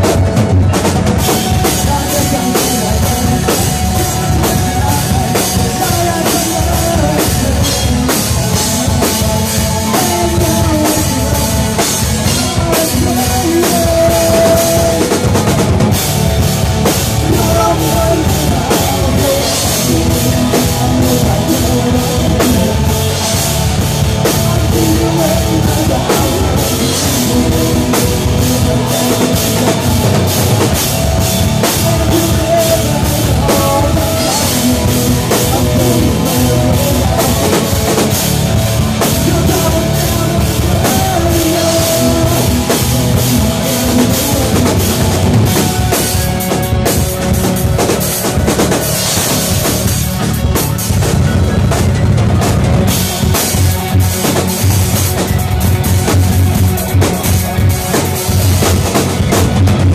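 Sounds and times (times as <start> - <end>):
distorted electric guitars: 0.0 - 59.9
driving drum kit: 0.0 - 59.9.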